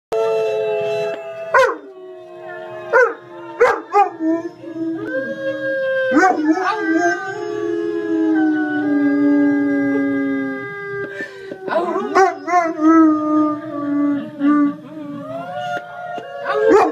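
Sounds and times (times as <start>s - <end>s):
dog howling and yelping: 0.6s - 16.9s.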